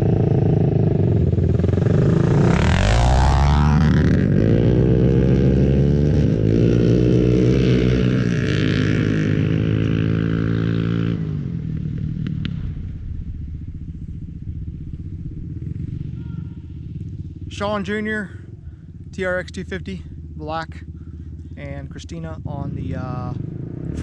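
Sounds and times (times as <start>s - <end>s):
quad engine running: 0.0s - 24.0s.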